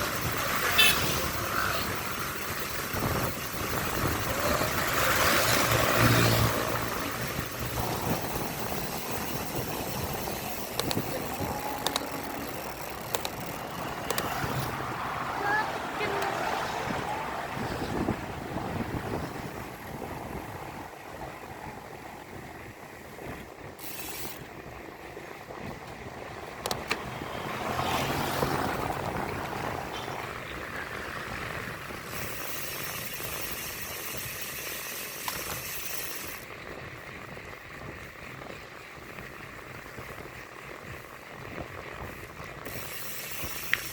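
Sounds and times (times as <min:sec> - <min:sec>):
vehicle engine and road noise: 0:00.0 - 0:43.9.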